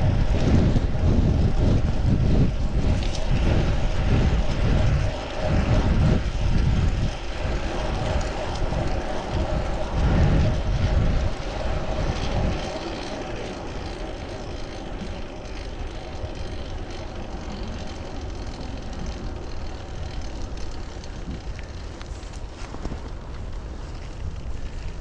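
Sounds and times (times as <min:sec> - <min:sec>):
bicycle road noise: 0:00.0 - 0:25.0
wind noise: 0:00.0 - 0:25.0.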